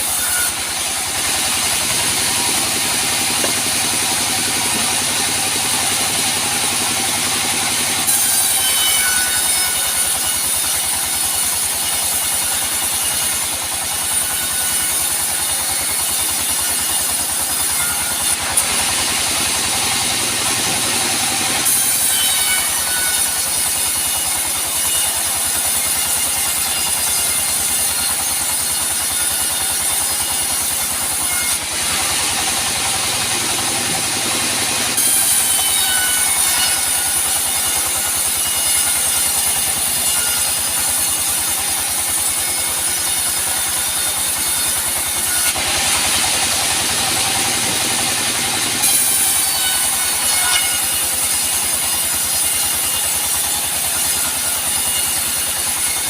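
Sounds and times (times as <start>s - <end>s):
band saw sawing logs: 0.0s - 56.0s.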